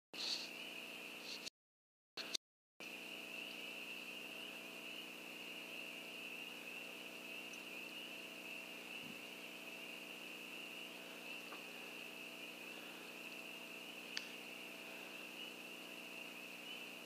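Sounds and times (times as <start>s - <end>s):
faint high-pitched drone: 2.2s - 17.0s
low steady hum: 2.2s - 17.0s.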